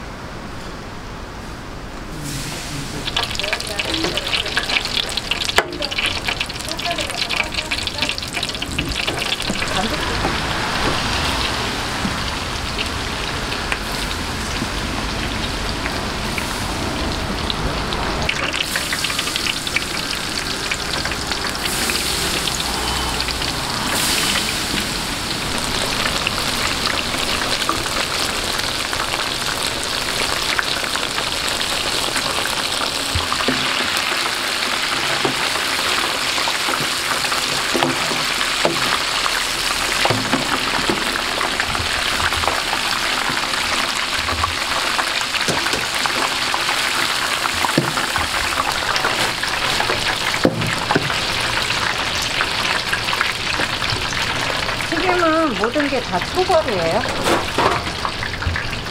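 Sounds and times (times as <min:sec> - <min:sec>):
shrimp deep-frying in oil: 0:02.0 - 0:58.9.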